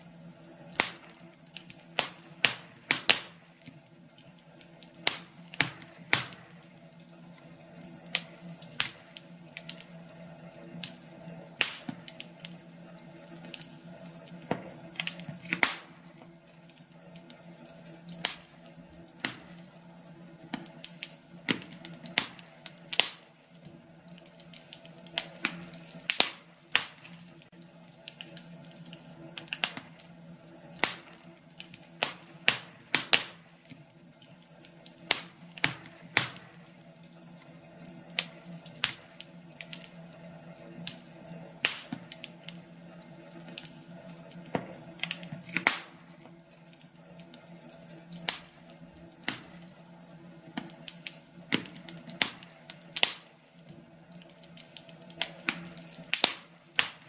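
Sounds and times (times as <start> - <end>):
faint steady background noise: 0.0 - 57.0
wood fire crackling: 0.0 - 57.0.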